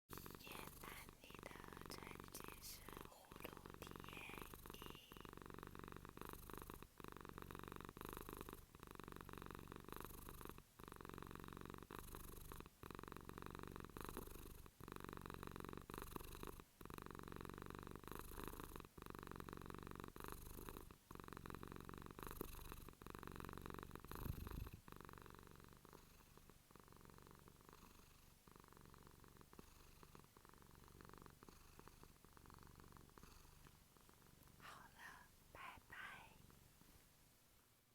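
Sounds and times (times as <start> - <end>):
cat purring: 0.0 - 37.9.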